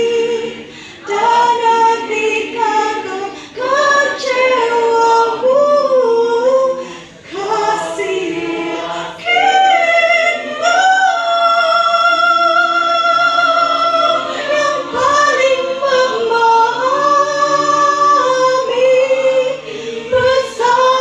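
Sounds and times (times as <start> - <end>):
choir singing a cappella: 0.0 - 21.0.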